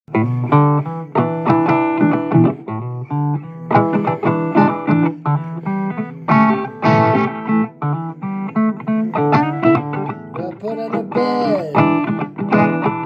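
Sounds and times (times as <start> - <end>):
guitar plucked notes: 0.1 - 13.0.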